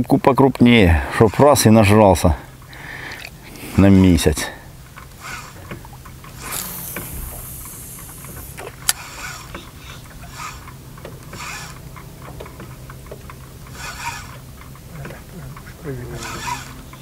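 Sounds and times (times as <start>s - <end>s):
rod and tackle clicks: 0.6s - 17.0s
spinning reel cranking: 0.8s - 17.0s.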